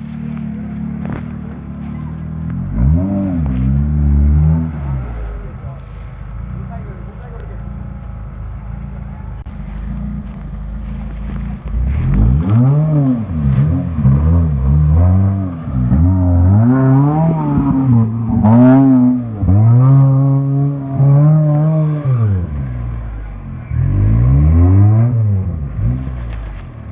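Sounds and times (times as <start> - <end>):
engine revving: 0.0 - 8.0, 8.6 - 26.9.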